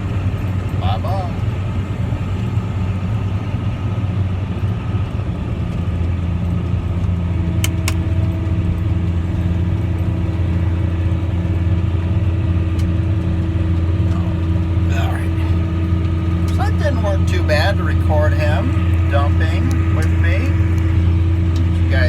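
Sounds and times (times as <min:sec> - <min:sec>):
steady whine: 0:00.0 - 0:22.0
tractor diesel engine running: 0:00.0 - 0:22.0.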